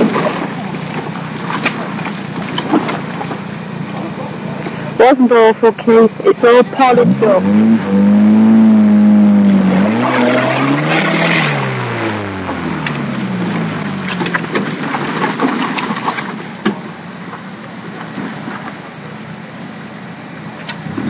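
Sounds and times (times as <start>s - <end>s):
car engine labouring: 0.0s - 21.0s.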